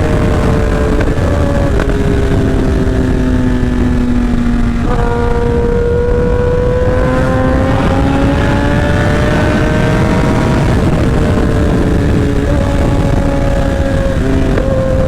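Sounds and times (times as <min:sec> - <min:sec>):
motorcycle engine accelerating: 0:00.0 - 0:15.0
wind rumble on microphone: 0:00.0 - 0:15.0.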